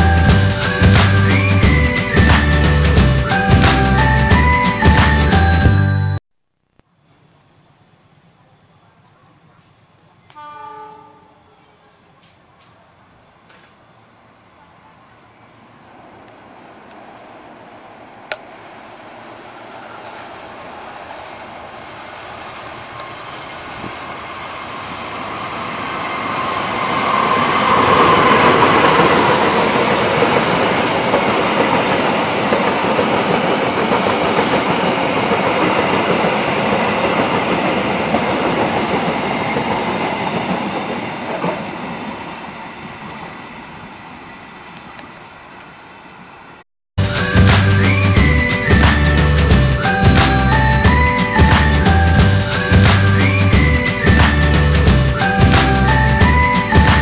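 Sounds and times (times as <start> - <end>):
train wheels on rails: 0.0 - 5.7, 15.8 - 57.0
passenger train passing: 0.0 - 6.2, 10.3 - 57.0.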